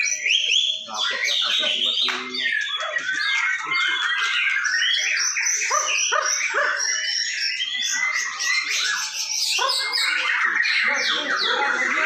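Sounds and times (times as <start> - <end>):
caged songbirds singing: 0.0 - 12.0.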